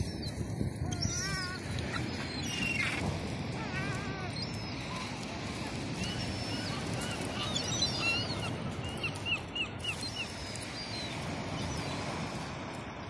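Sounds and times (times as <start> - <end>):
gulls calling: 0.0 - 13.0
waves washing on shore: 0.0 - 13.0.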